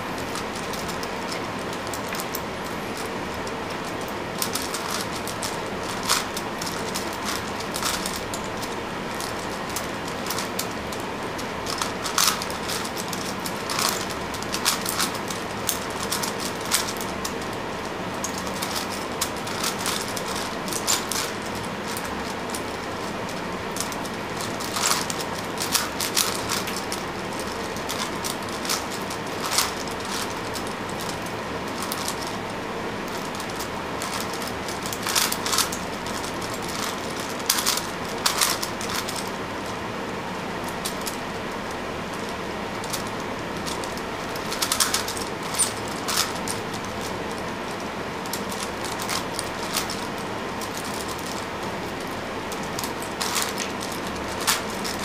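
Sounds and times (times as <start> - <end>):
steady hiss: 0.0 - 55.0
puzzle cube plastic clicks: 3.0 - 32.4, 33.1 - 39.4, 42.1 - 55.0.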